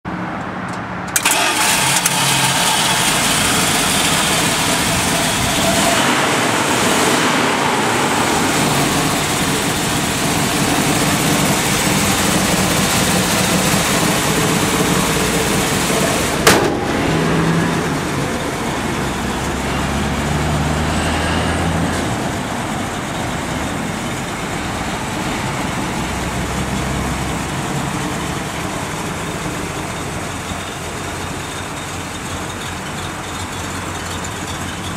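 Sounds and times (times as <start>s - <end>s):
pickup truck engine idling: 1.2s - 34.9s.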